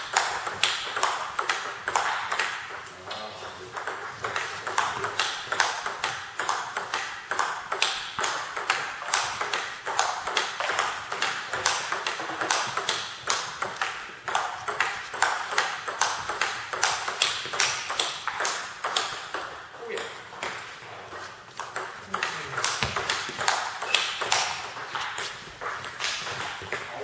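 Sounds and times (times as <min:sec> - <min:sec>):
table tennis ball clicking off bats: 0:00.0 - 0:20.6, 0:21.6 - 0:27.0
ball bouncing on table: 0:00.2 - 0:02.9, 0:03.6 - 0:20.7, 0:21.6 - 0:27.0.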